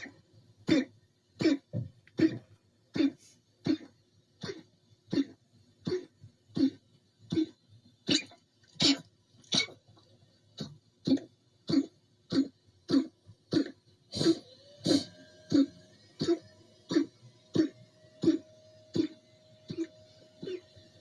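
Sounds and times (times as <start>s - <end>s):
dog coughing: 0.0s - 9.8s, 10.6s - 20.7s.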